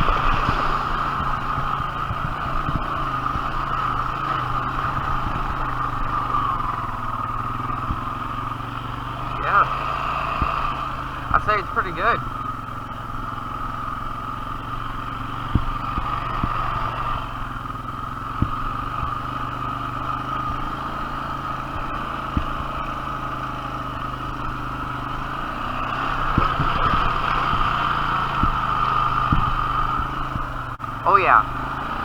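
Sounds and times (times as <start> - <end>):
engine knocks: 0.0 - 21.0, 21.6 - 32.0
atv engine running: 0.0 - 32.0.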